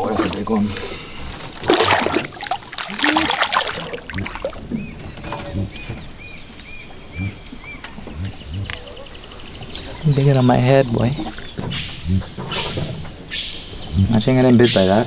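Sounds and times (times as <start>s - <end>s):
bird chirping: 0.0s - 15.0s
water splashing: 0.0s - 15.0s.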